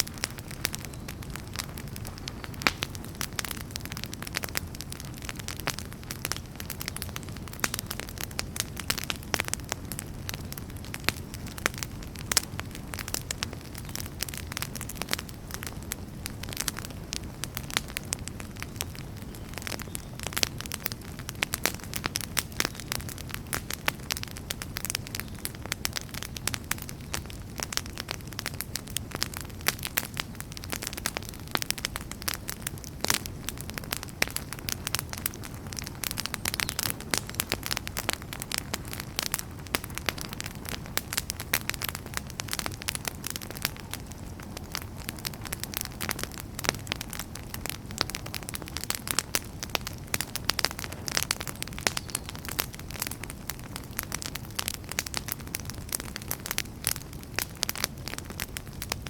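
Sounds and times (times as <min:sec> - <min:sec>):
logs crackling and popping: 0:00.0 - 0:59.0
low rumble of flame: 0:00.0 - 0:59.0.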